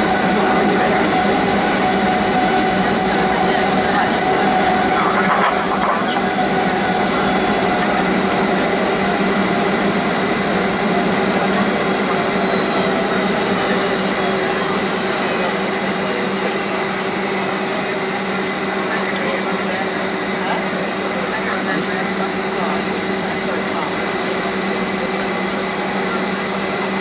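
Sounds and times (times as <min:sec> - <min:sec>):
jet engines rushing hum: 0:00.0 - 0:27.0.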